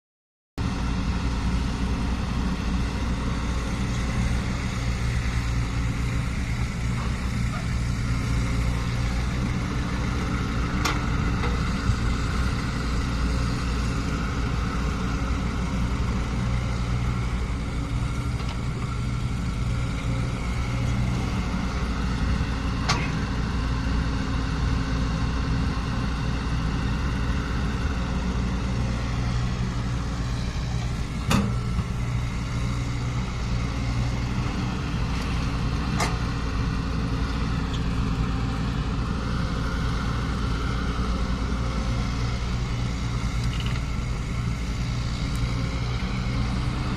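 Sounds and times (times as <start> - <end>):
diesel engine running: 0.6 - 46.9.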